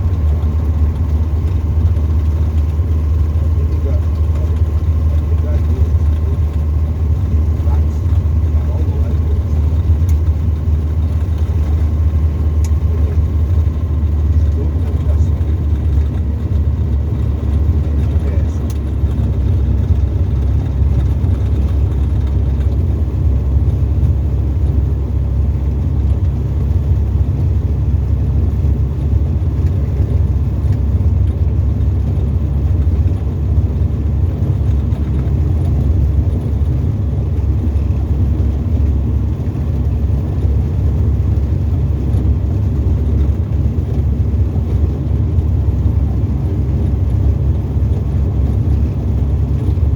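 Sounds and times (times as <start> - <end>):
aircraft engine and propeller drone: 0.0 - 49.9.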